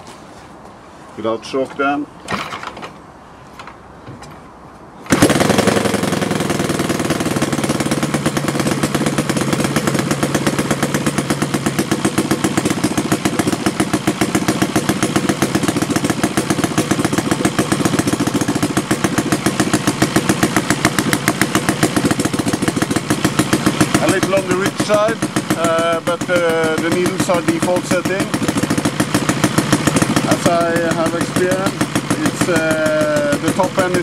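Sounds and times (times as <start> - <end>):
model airplane engine running: 5.1 - 28.8, 29.5 - 34.0.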